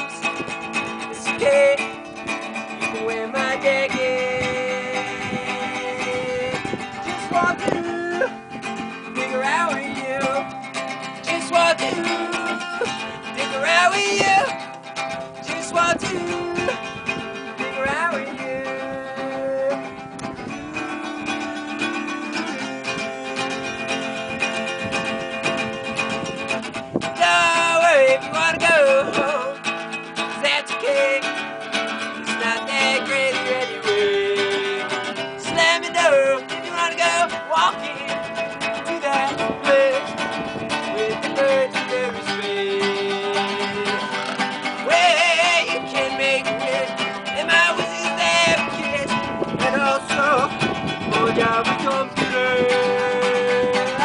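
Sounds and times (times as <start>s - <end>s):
acoustic guitar song: 0.0s - 54.0s.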